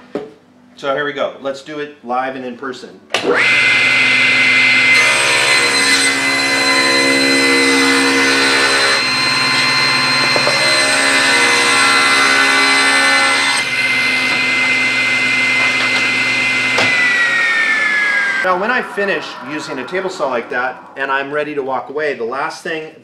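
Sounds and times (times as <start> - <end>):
table saw whining: 3.2 - 21.9.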